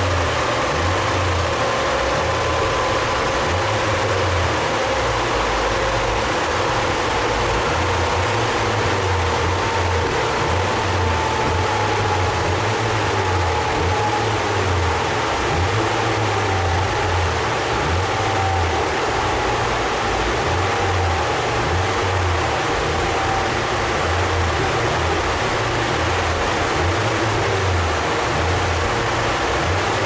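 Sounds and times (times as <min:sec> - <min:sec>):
car engine idling: 0:00.0 - 0:30.0
large cooling fan blowing: 0:00.0 - 0:30.0.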